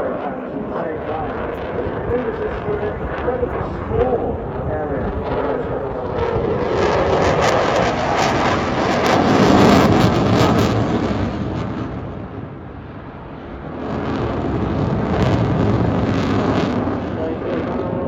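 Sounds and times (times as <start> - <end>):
loud jet roar: 0.0 - 18.0.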